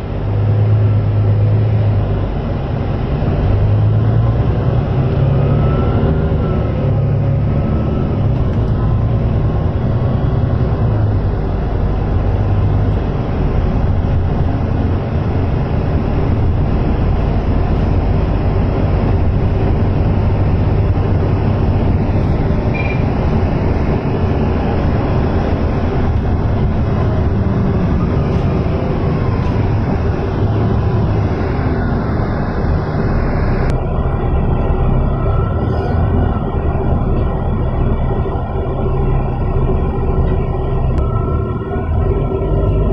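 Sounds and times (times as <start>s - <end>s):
bus diesel engine droning: 0.0s - 42.9s
road and body noise: 0.0s - 42.9s.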